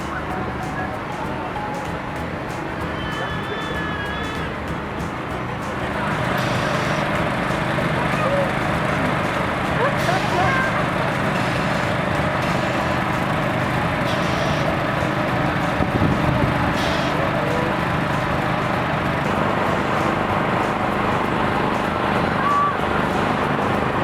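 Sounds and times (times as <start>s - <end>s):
faint voices: 0.0s - 24.0s
large engine running: 0.0s - 24.0s.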